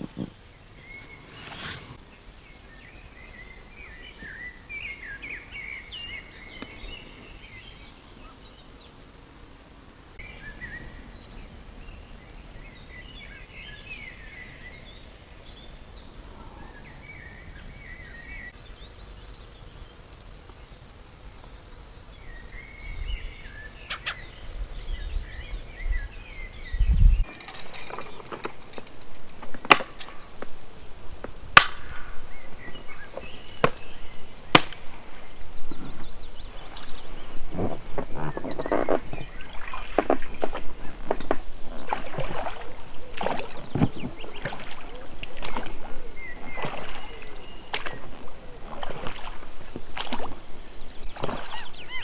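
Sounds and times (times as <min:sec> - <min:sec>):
small birds chirping: 0:00.0 - 0:09.2, 0:10.1 - 0:52.0.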